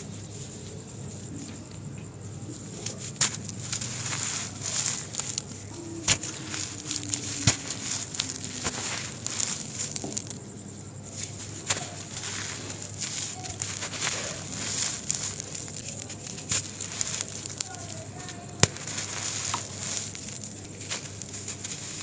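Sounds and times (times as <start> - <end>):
crumbs falling: 0.2 - 22.0
hands crumbling dry sand clumps: 2.4 - 22.0.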